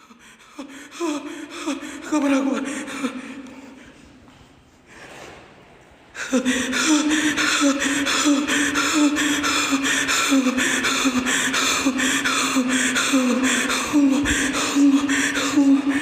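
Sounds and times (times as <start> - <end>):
sobbing gasps: 0.0 - 4.0, 6.2 - 16.0.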